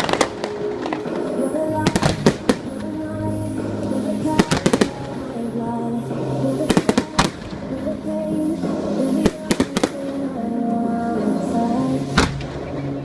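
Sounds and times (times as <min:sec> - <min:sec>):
fireworks bursting: 0:00.0 - 0:13.0
music playing: 0:00.0 - 0:13.0.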